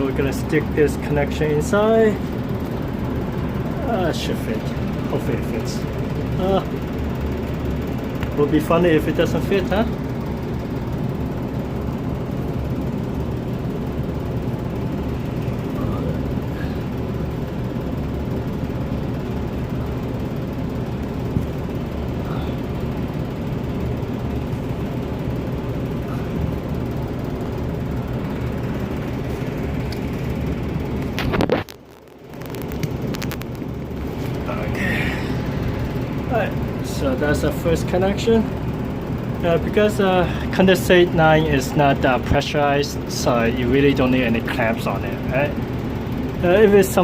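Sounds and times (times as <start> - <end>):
furnace humming: 0.0 - 47.0.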